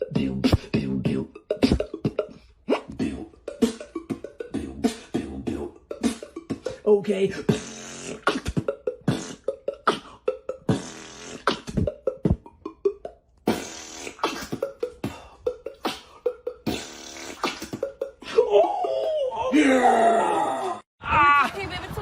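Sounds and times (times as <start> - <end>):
person beatboxing: 0.0 - 19.2.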